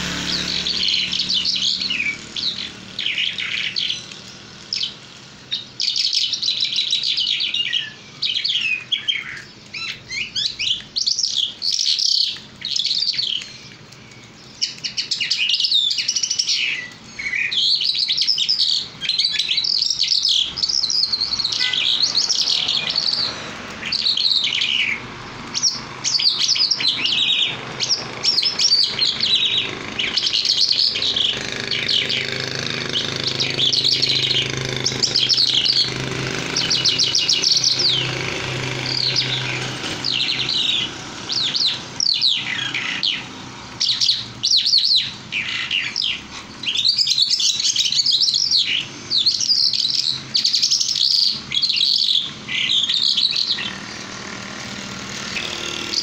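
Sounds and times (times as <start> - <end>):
songbird chirping and warbling: 0.0 - 56.0.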